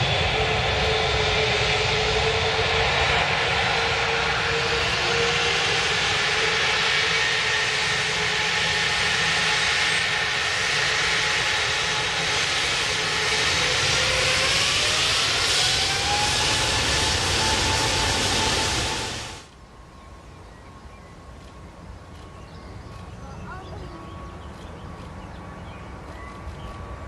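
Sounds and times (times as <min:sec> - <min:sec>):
jet engines roaring and whining: 0:00.0 - 0:20.4, 0:21.1 - 0:27.0.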